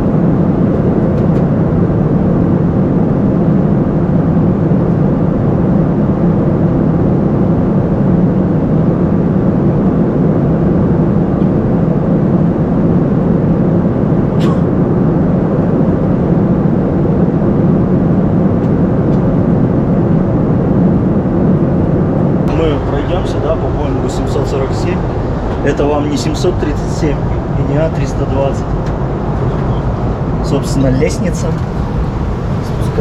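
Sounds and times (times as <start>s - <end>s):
aircraft cabin rumble: 0.0s - 33.0s.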